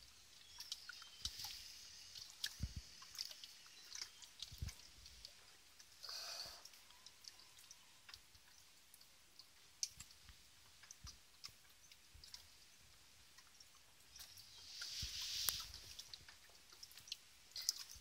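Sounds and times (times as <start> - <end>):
faint small clicks: 0.5 - 6.0, 6.6 - 12.6, 13.3 - 18.0.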